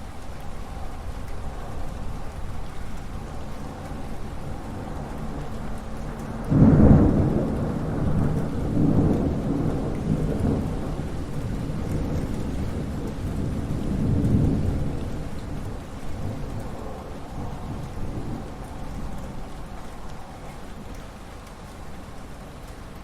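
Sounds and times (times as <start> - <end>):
steady rain: 0.0 - 23.0
distant thunder rumble: 1.4 - 21.0.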